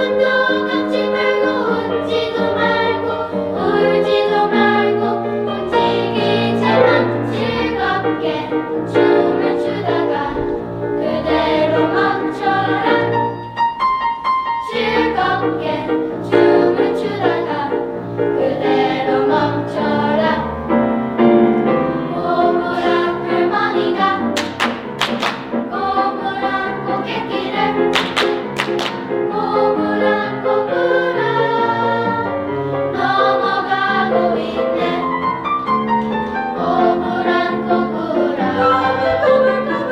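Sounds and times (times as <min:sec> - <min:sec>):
mixed choir singing in harmony: 0:00.0 - 0:39.9
musical accompaniment: 0:00.0 - 0:39.9.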